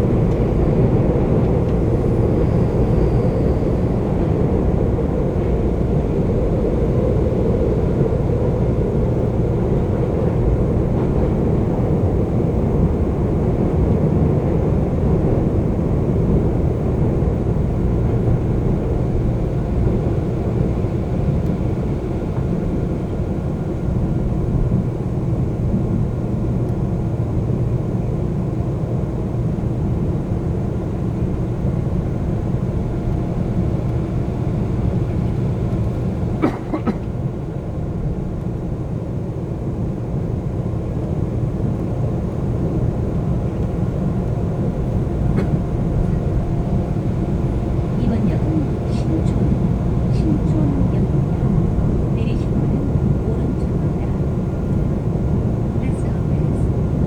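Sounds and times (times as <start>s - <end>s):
subway train rumble: 0.0s - 57.0s.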